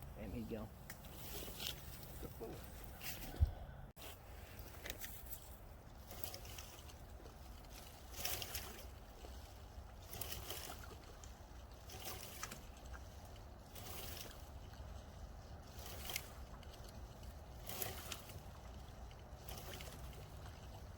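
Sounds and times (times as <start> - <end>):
low steady rumble: 0.0 - 20.9
water splashing and sloshing: 0.4 - 20.9.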